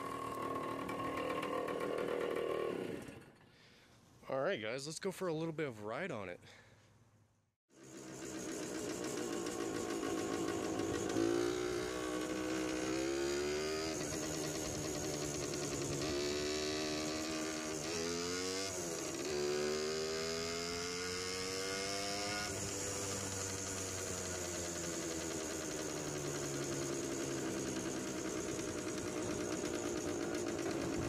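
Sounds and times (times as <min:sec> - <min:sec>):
two-stroke motorbike engine accelerating: 0:00.0 - 0:03.3, 0:07.7 - 0:31.0.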